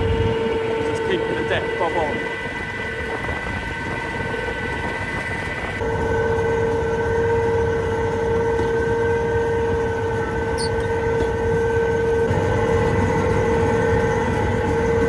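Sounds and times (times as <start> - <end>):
machine whine over low rumble: 0.0 - 15.0.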